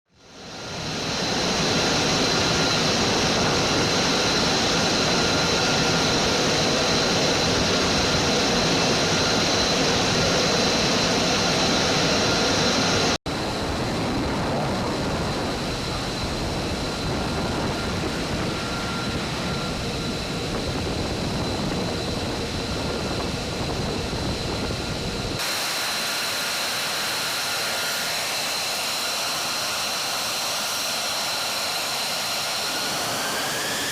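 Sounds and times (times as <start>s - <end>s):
high engine whine: 0.1s - 33.9s
jet engine running: 0.1s - 33.9s.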